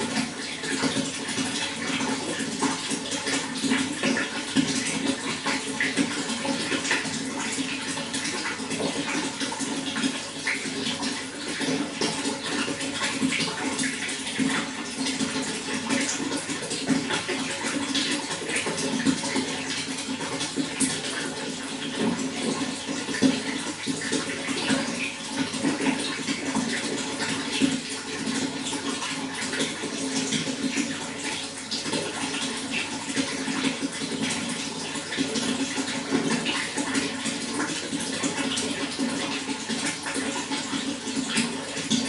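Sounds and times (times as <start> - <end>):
running water with splashes: 0.0 - 42.0.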